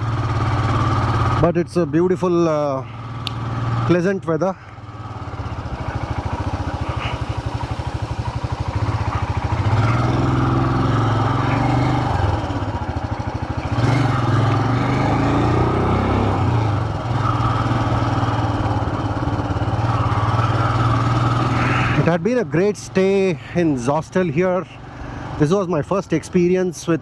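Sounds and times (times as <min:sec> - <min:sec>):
motorcycle engine revving: 0:00.0 - 0:25.7.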